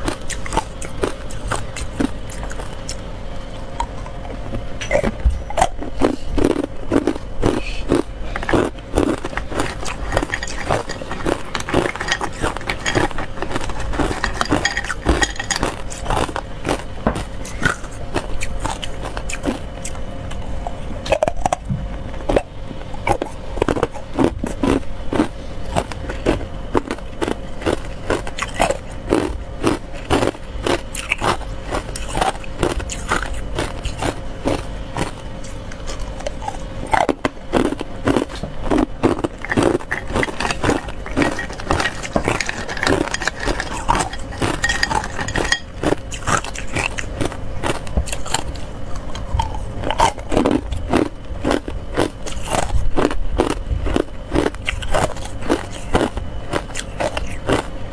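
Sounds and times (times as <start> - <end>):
ice cubes crunching when chewed: 0.0 - 57.8.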